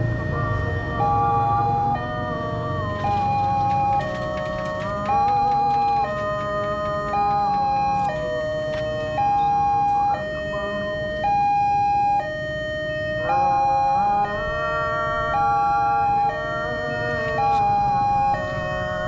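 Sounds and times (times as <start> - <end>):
two-tone level crossing alarm: 0.0 - 19.0.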